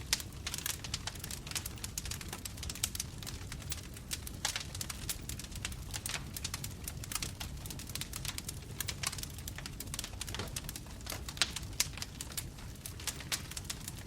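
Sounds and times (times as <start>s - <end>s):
bonfire crackling: 0.0s - 14.0s
low rumble of flames: 0.0s - 14.0s.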